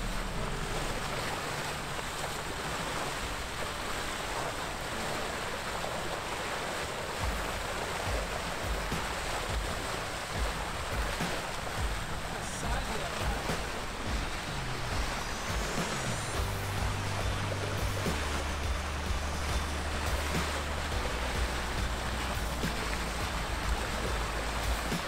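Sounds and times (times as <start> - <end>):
water rushing along a hull: 0.0 - 25.0
wind on microphone: 0.0 - 25.0.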